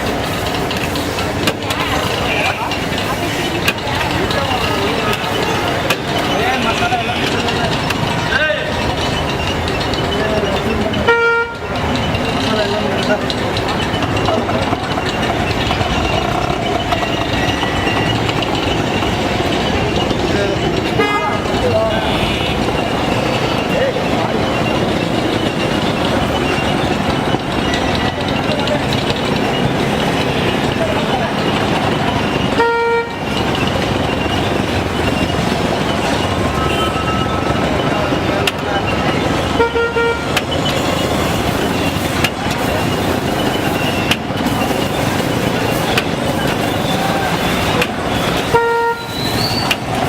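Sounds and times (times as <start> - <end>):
street traffic rumble: 0.0 - 50.0.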